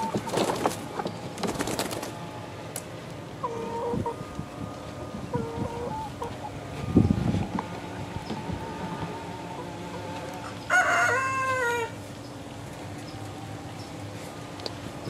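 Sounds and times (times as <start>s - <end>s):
birds rustling: 0.0s - 15.0s
young chickens calling: 0.0s - 15.0s.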